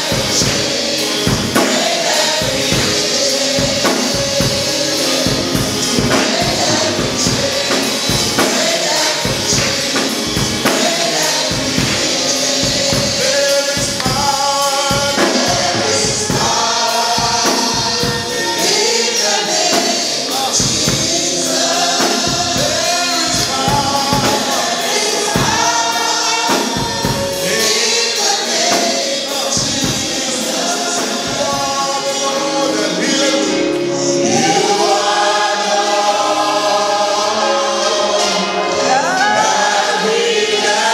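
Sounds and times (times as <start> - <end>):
drums beating: 0.0 - 33.2, 33.8 - 36.7
band playing: 0.0 - 40.9
choir and congregation singing: 0.0 - 40.9.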